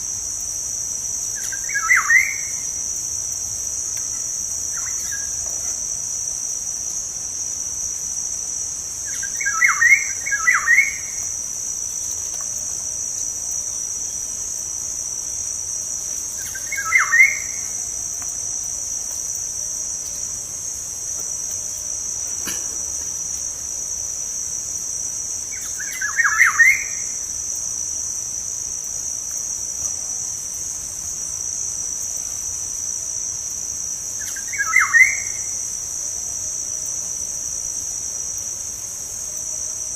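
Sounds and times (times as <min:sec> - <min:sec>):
high-pitched insect drone: 0:01.3 - 0:39.9.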